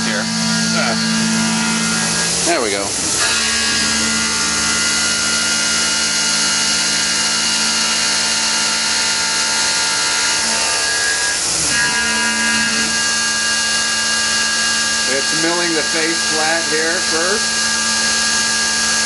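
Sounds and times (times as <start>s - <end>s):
milling spindle whine: 0.0s - 19.0s.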